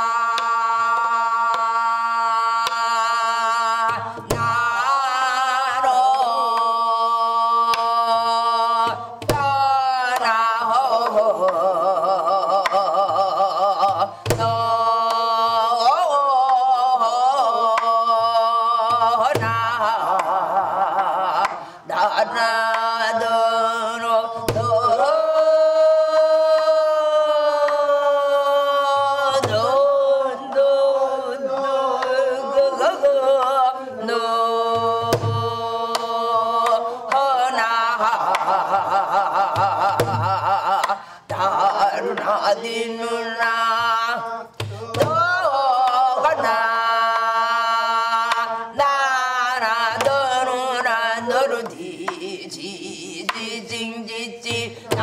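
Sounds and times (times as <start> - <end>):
person singing with wide vibrato: 0.0 - 55.0.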